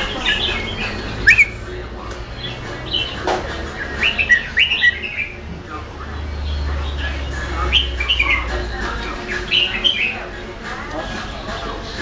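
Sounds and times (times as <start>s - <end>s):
bird chirpy calls: 0.0s - 1.7s, 2.3s - 11.8s.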